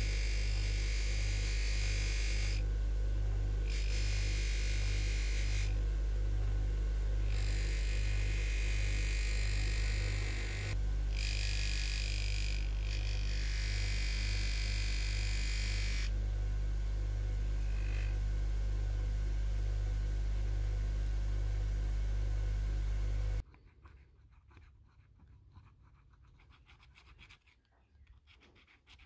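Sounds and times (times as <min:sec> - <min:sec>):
bench grinder motor hum: 0:00.0 - 0:23.4.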